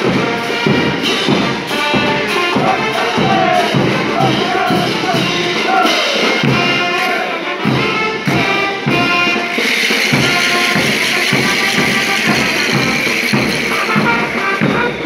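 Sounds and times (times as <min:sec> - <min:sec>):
heavy drum beat: 0:00.0 - 0:15.0
trumpets and low brass: 0:00.0 - 0:15.0.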